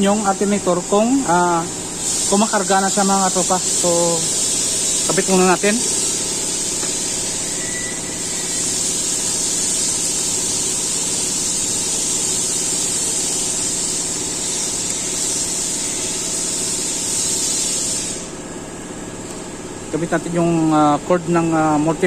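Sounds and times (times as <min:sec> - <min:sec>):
high hiss: 0:00.0 - 0:18.4.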